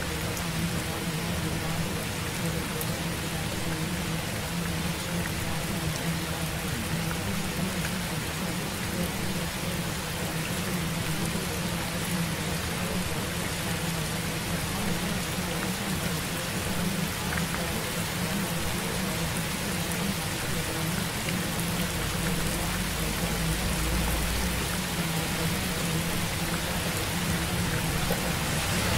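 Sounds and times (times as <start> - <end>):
rain-like hiss: 0.0 - 28.9.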